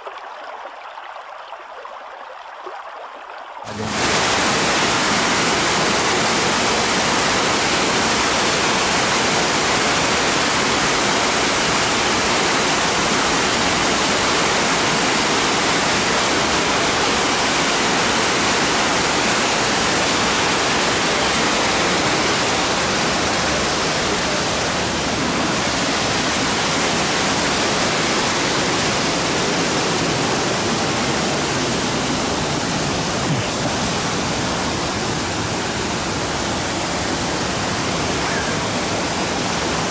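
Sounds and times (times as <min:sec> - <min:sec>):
waterfall rushing: 0:03.7 - 0:39.9.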